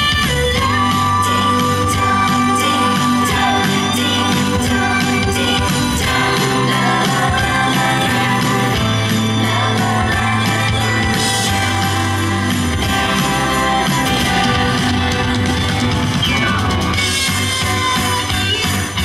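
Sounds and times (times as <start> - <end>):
christmas pop music: 0.0 - 19.0
tinkling metal shaker in pop music: 0.0 - 19.0.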